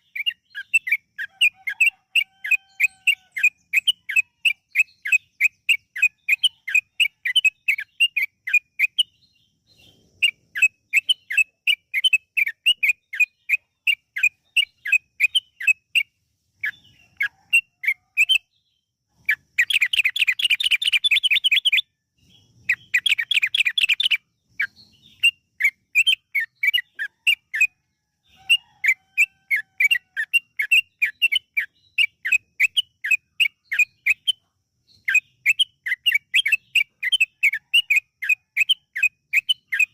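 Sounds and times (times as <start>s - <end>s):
bird singing fast chirps: 0.0s - 39.9s.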